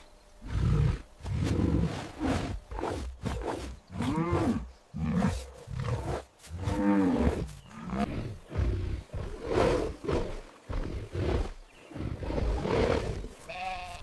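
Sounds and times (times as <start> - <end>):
big cat roaring and growling: 0.4 - 13.4.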